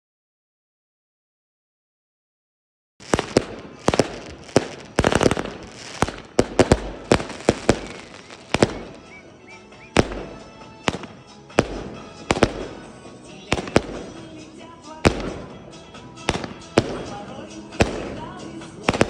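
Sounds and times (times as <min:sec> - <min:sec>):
fireworks bangs: 0:03.0 - 0:19.0
fireworks crackling: 0:03.0 - 0:19.0.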